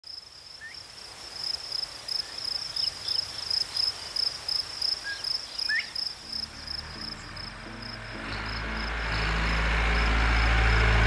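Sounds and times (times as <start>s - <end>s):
insect chirping: 0.1s - 11.0s.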